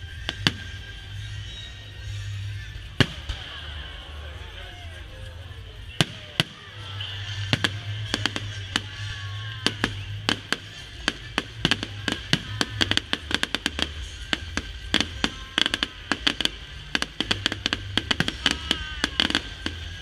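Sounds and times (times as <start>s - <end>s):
fireworks bangs and crackles: 0.0s - 20.0s
music with steady bass line: 0.0s - 20.0s.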